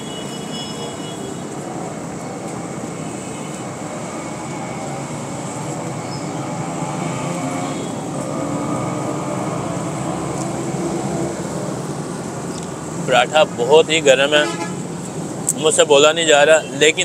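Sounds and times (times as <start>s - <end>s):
street traffic rumbling: 0.0s - 17.0s.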